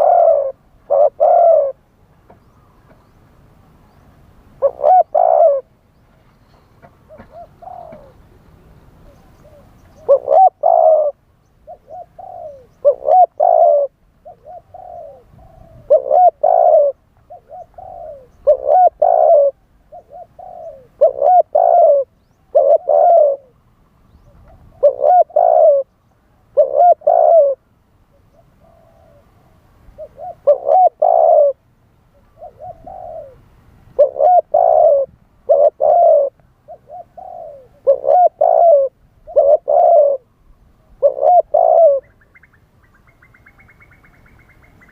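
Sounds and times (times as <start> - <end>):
dove cooing: 0.0 - 2.9, 4.6 - 5.8, 6.8 - 8.4, 9.0 - 42.5.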